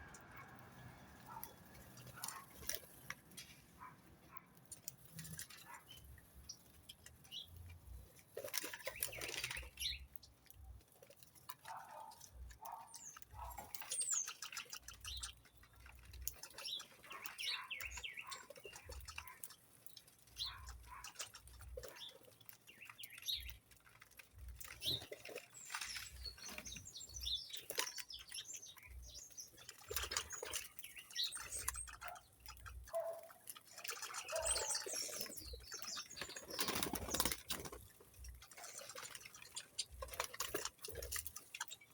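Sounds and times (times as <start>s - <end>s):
small birds chirping: 0.0s - 41.9s
wings fluttering: 0.1s - 41.9s.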